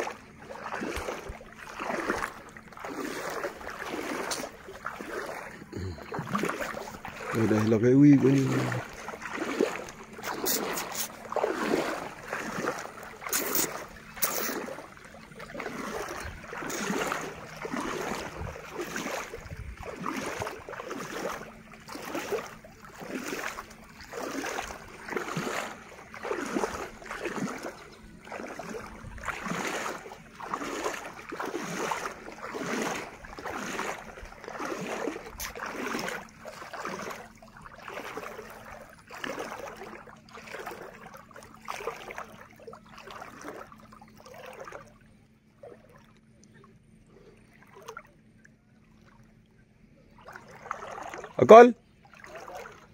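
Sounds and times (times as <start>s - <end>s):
water swishing and splashing: 0.0s - 52.9s.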